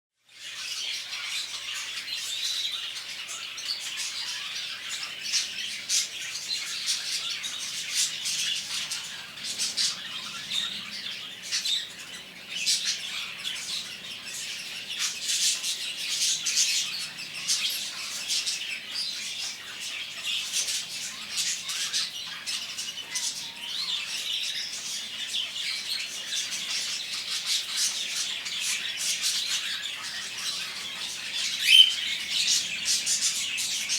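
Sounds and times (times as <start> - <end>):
caged birds chirping and squawking: 0.3 - 33.9.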